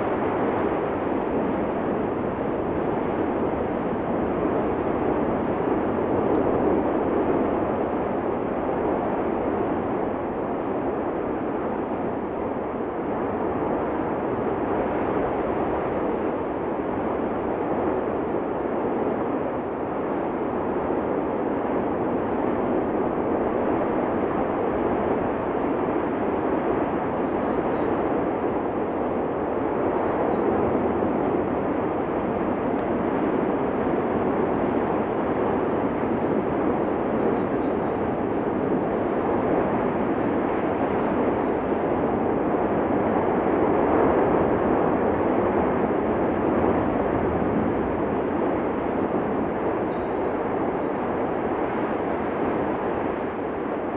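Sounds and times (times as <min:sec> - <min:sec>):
volcanic eruption roar: 0:00.0 - 0:53.9.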